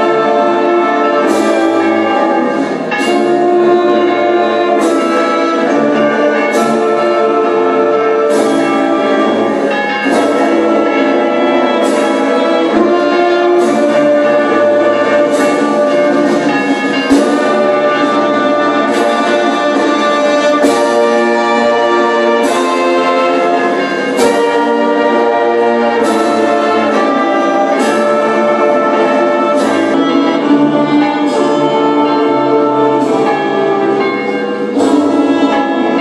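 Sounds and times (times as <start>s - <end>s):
slow solemn brass music: 0.0s - 36.0s.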